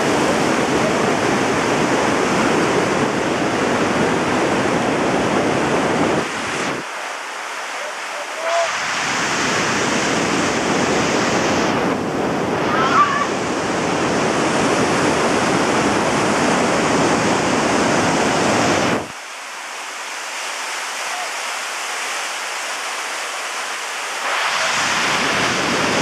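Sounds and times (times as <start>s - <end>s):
whitewater rushing over boulders: 0.0s - 26.0s.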